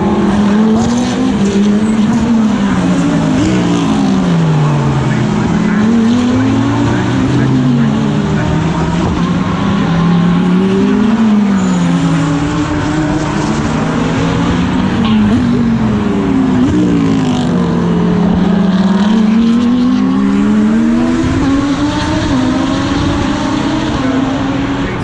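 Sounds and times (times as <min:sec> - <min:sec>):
race car engine: 0:00.0 - 0:25.0.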